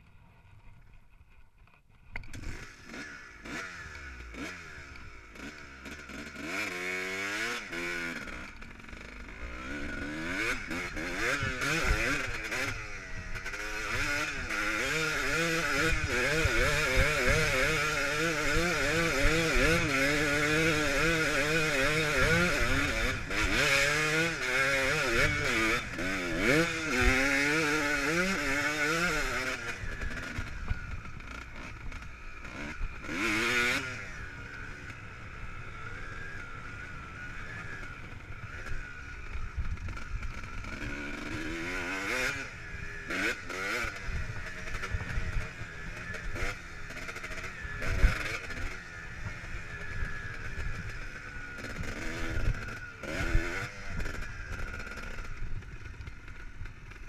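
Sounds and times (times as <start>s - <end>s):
dirt bike engine revving: 2.2s - 57.0s.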